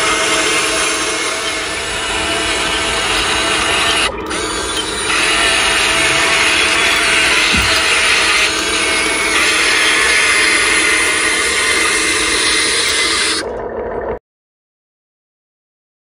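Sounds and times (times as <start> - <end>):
electric motor and gears whirring: 0.0 - 14.1.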